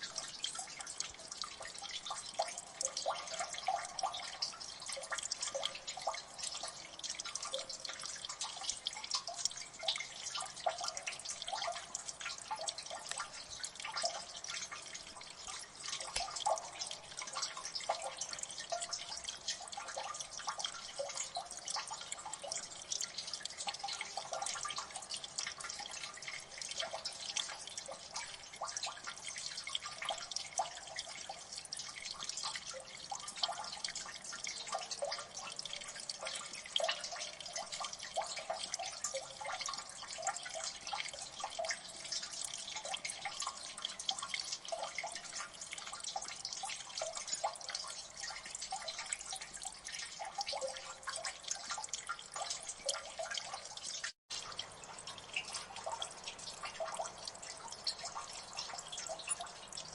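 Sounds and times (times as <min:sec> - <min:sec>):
water dripping: 0:00.0 - 0:59.9.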